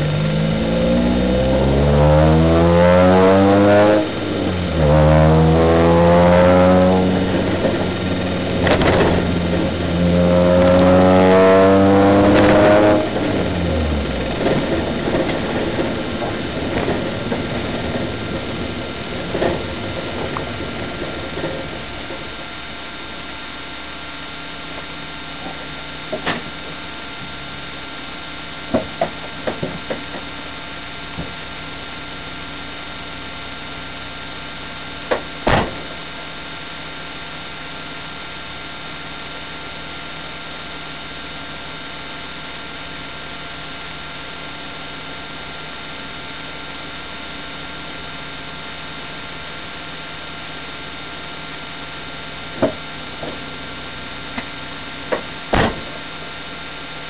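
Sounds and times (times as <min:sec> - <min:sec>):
constant whine: 0:00.0 - 0:57.0
steady electrical hum: 0:00.0 - 0:57.0.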